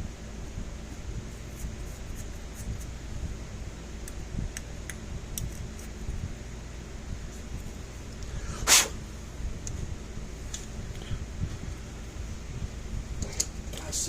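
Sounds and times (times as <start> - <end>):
steady fan hum: 0.0 - 14.0.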